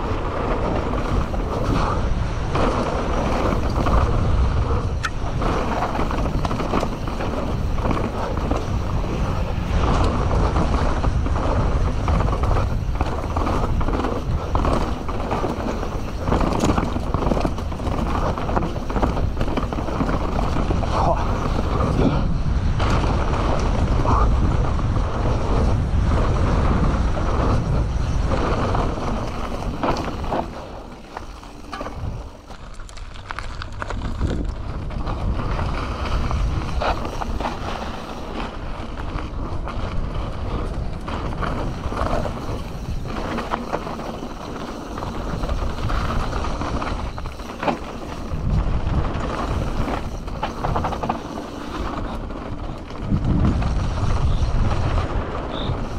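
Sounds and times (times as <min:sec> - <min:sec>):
wind on microphone: 0:00.0 - 0:31.0, 0:31.7 - 0:55.9
mountain bike clattering: 0:00.0 - 0:55.9
tyre noise on dirt trail: 0:00.0 - 0:55.9.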